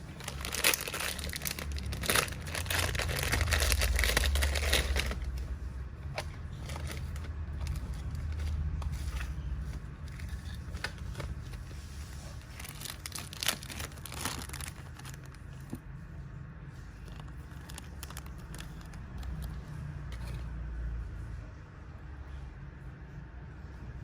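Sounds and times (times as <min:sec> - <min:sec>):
crinkling and scraping handling noises: 0:00.0 - 0:21.3.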